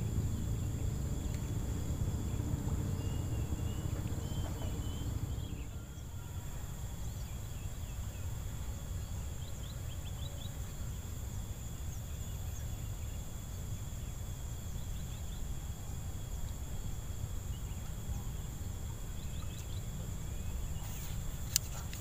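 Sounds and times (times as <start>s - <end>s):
high-pitched insect drone: 0.0s - 22.0s
low constant rumble: 0.0s - 22.0s.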